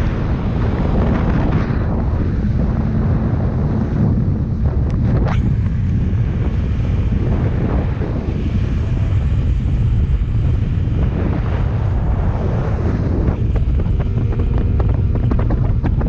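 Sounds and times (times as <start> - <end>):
speedboat running: 0.0 - 16.0
water noise: 0.0 - 16.0
wind buffeting microphone: 0.0 - 16.0.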